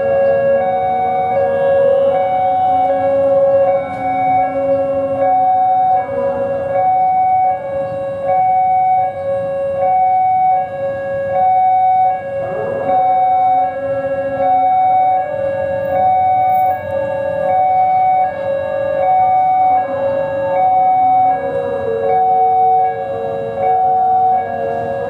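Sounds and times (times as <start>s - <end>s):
level-crossing two-tone alarm: 0.0s - 25.0s.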